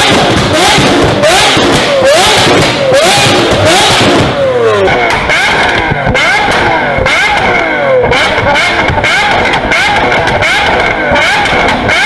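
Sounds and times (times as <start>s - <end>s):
car engine revving: 0.0s - 12.0s
sharp exhaust pops: 0.0s - 12.0s.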